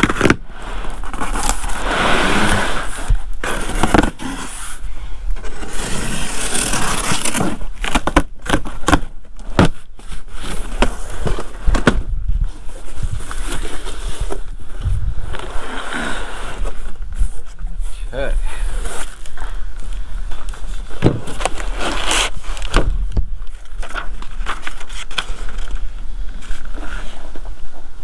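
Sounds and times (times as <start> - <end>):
cardboard scraping and tearing: 0.0 - 27.6.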